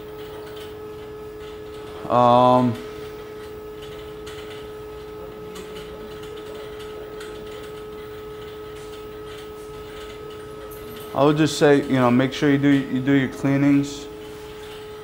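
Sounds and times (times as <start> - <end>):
equipment humming: 0.0 - 15.0.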